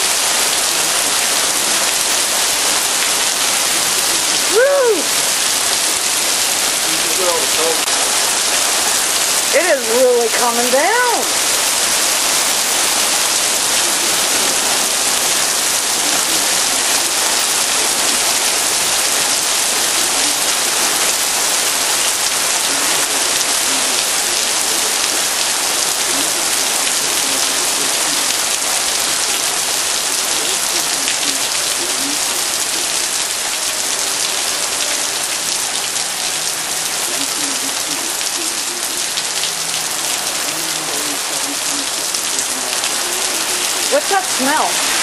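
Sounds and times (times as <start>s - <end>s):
heavy rain on pavement: 0.0s - 45.0s.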